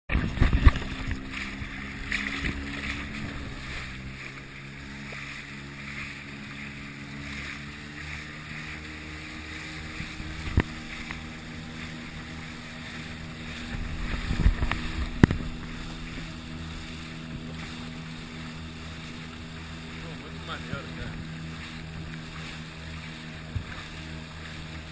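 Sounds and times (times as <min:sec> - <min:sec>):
outboard motor running: 0:00.1 - 0:24.9
water splashing against hull: 0:00.1 - 0:24.9.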